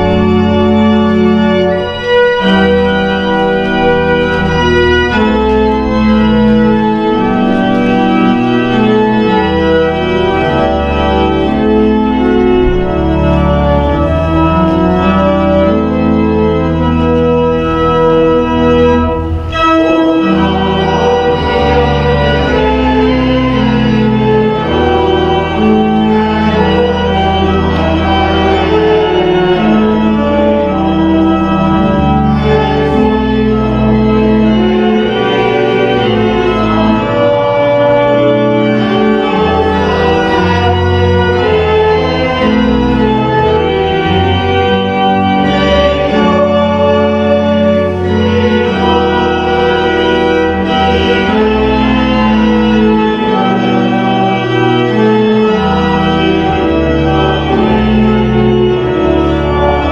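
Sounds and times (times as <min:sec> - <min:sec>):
church organ playing: 0:00.0 - 0:59.9.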